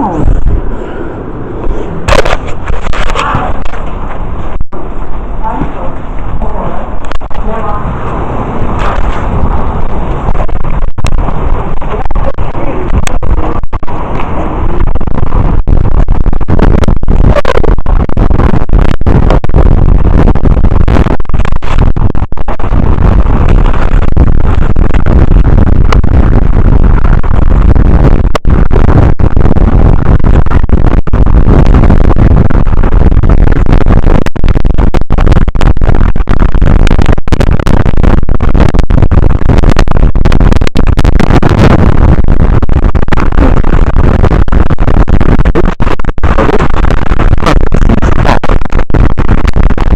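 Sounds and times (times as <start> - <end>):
crackling: 0.0 - 49.9.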